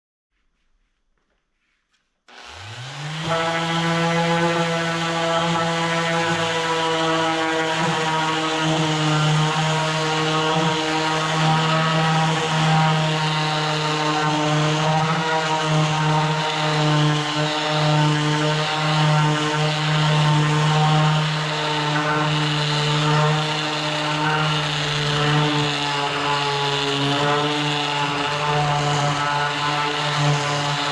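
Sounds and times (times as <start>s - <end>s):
electric motor spinning up and humming: 2.3s - 30.9s.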